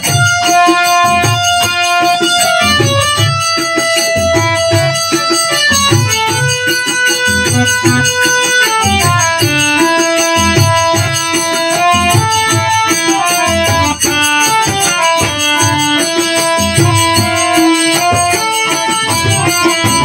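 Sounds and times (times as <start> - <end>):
devotional melody with held notes: 0.0 - 20.0
regular drum beat: 0.0 - 20.0.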